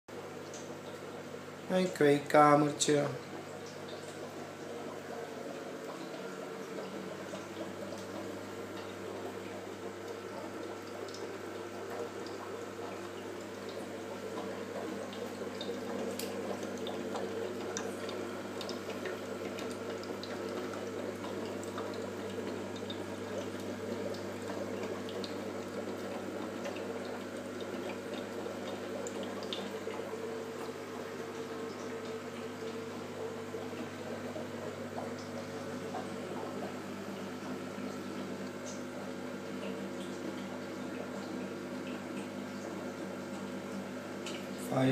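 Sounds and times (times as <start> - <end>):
aquarium pump hum: 0.1 - 44.9
trickling water: 0.1 - 44.9
small water drips: 0.2 - 2.0, 2.8 - 44.9.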